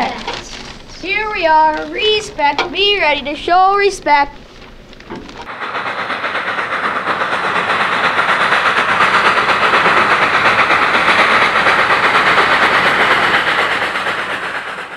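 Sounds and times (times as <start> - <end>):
train rushing clatter: 0.0 - 14.9.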